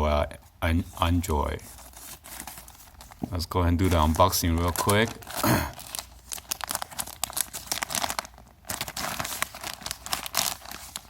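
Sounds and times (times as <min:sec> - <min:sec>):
packaging crinkling and tearing: 0:01.6 - 0:11.0.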